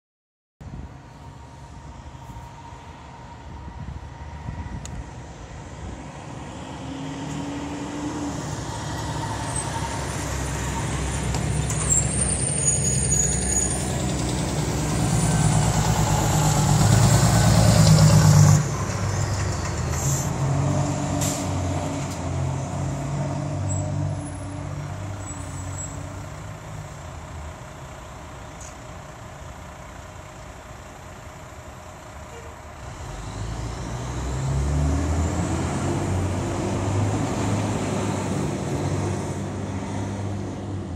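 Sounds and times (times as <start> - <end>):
diesel truck engines rumbling: 0.6 - 40.9
quieter truck engine running: 0.7 - 40.9.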